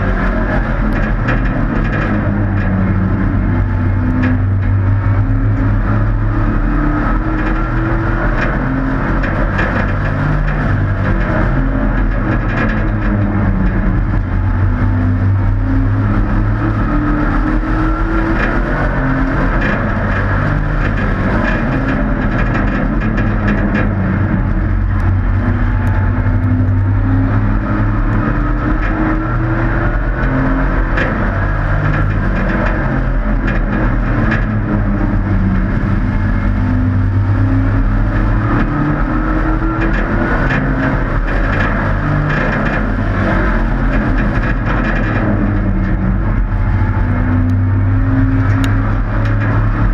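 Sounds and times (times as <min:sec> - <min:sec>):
race truck engines revving: 0:00.0 - 0:49.9.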